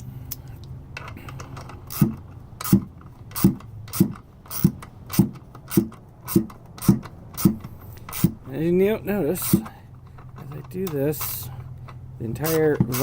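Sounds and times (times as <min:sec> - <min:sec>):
ratchet clicking with squeak: 0:01.0 - 0:08.4, 0:09.4 - 0:13.0.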